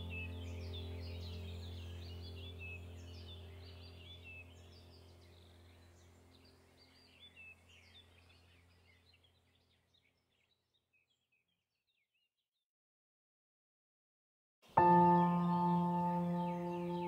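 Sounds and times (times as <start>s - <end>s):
small birds chirping: 0.0s - 12.5s, 14.7s - 17.0s.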